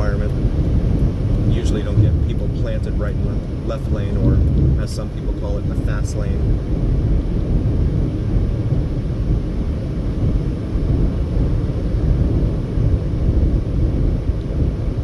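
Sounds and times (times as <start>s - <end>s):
car engine drone: 0.0s - 15.0s
road and tyre noise: 0.0s - 15.0s.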